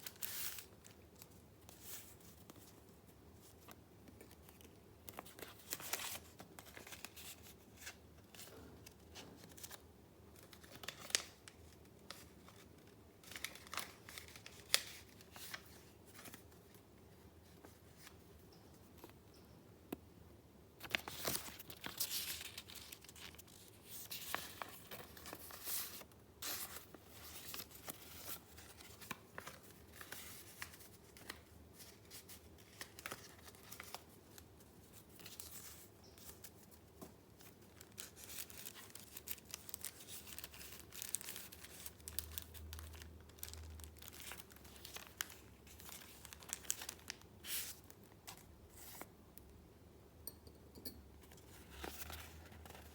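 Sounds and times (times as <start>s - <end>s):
paper rustling and crinkling: 0.0s - 18.3s, 20.8s - 49.1s, 51.3s - 52.9s.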